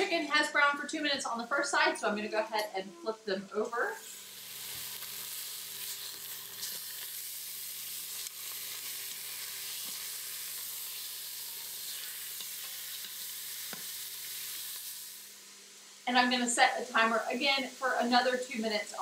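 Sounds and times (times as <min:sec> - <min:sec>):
chicken sizzling in a pot: 0:03.7 - 0:19.0.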